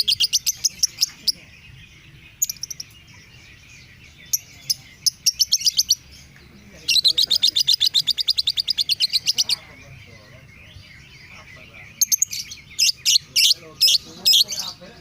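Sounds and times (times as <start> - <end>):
lovebird chirping: 0.0 - 15.0.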